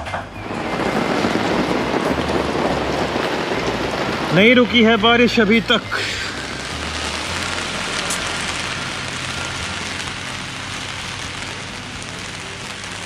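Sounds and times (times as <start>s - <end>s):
rain on umbrella and paving: 0.3s - 13.0s.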